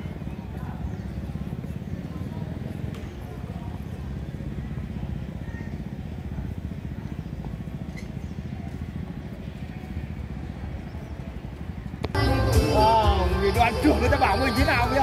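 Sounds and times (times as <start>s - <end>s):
motorbike engines: 0.0s - 15.0s
street traffic rumble: 0.0s - 15.0s.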